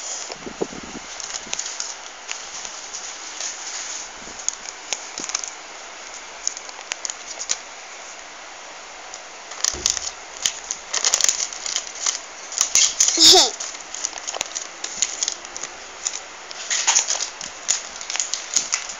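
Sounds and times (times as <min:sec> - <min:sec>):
paper rustling and crinkling: 0:00.0 - 0:07.6, 0:09.5 - 0:18.9.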